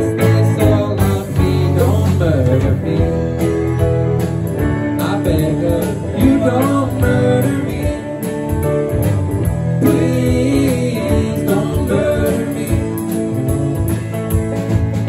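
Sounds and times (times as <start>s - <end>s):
live band through speakers: 0.0s - 15.0s.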